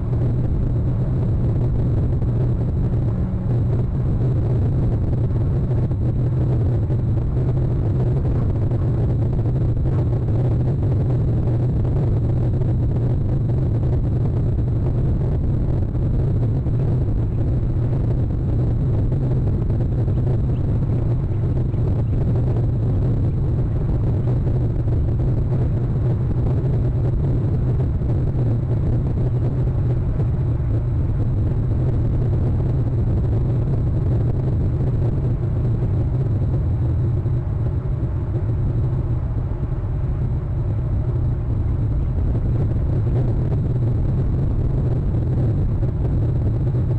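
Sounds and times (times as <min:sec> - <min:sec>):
low background rumble: 0:00.0 - 0:46.9.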